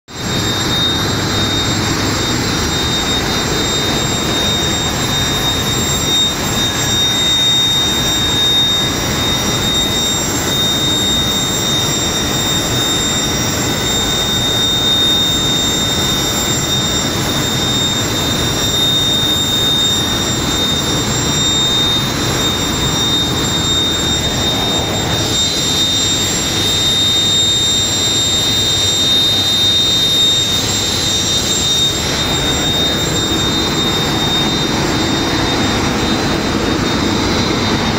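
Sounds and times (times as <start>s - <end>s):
gas turbine running: 0.1s - 37.9s.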